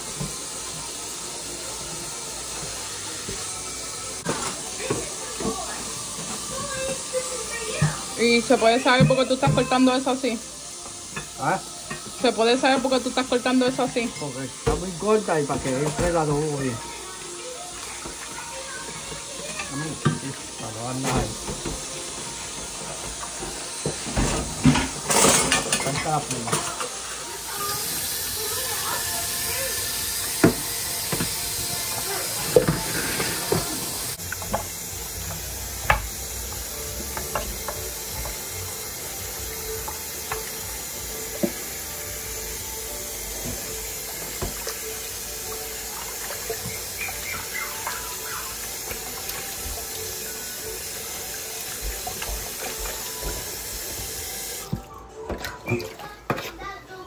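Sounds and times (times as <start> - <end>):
faucet running into steel sink: 0.0 - 54.8.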